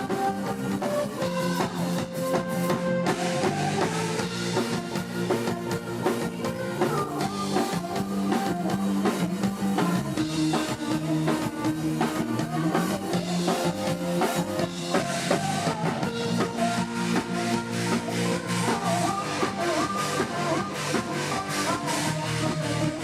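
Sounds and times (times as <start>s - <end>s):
guitar: 0.0s - 23.0s
live band music: 0.0s - 23.0s.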